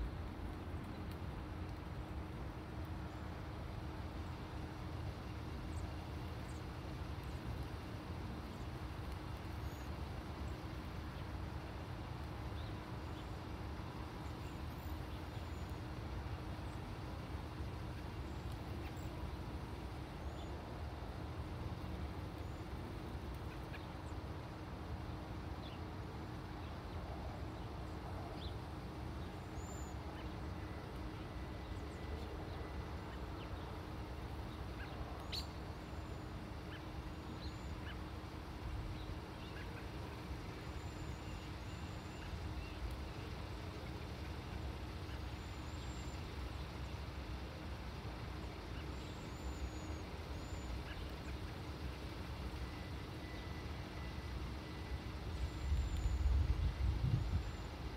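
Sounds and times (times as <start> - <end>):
faint steady hum: 0.0 - 57.9
low outdoor rumble: 0.0 - 57.9.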